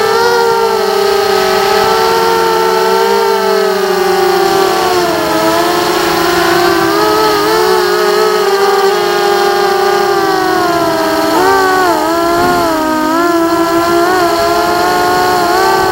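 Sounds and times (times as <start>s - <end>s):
drone motors whining: 0.0s - 15.9s.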